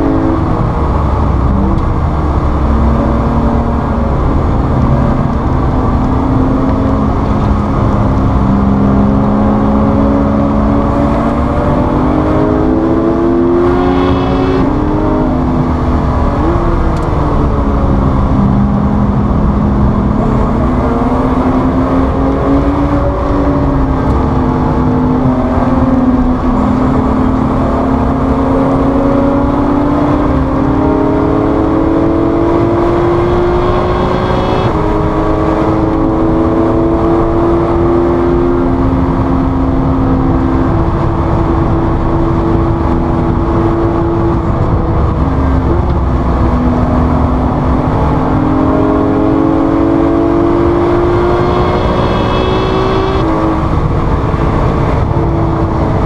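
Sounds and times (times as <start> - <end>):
road and wind roar: 0.0 - 56.0
sports car engine accelerating: 0.0 - 56.0.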